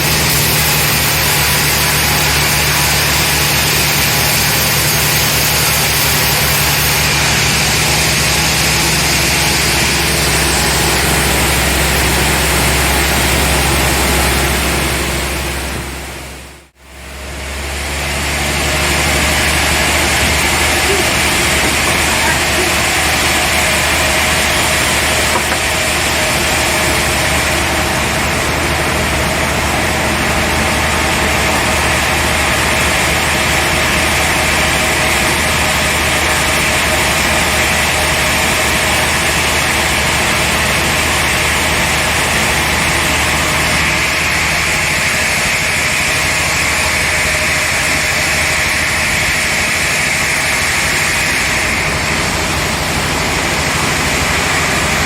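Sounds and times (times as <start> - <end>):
low motor hum: 0.0 - 55.0
sawmill machinery hiss: 0.0 - 55.0.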